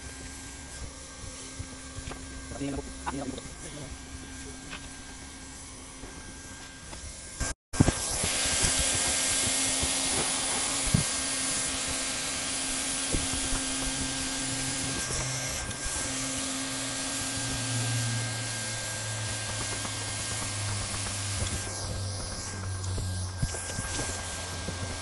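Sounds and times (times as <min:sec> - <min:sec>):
hot-air welding gun blowing: 0:00.0 - 0:25.0.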